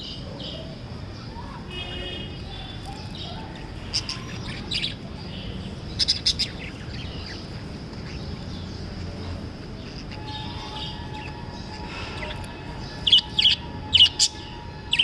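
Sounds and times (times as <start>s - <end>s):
low background noise: 0.0s - 15.0s
parrots chirping: 2.4s - 15.0s.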